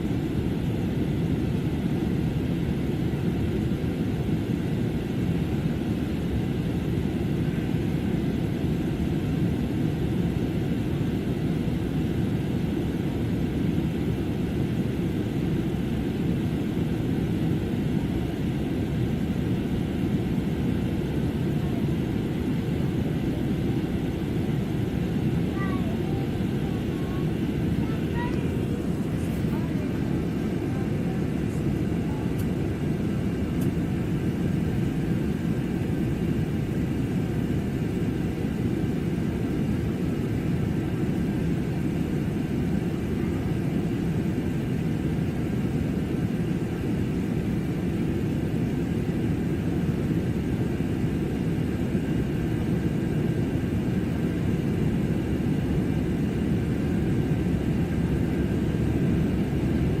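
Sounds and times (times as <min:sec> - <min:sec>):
faint steady hum: 0:00.0 - 1:00.0
jet engines and airflow rumble: 0:00.0 - 1:00.0.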